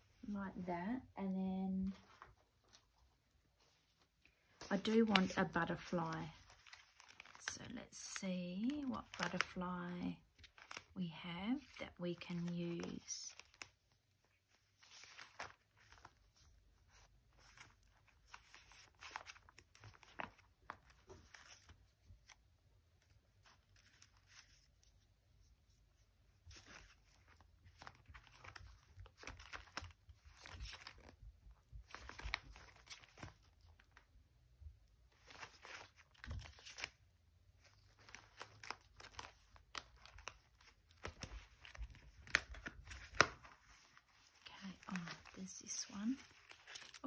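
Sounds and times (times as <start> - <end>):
plastic sleeves rustling: 0.0 - 47.0.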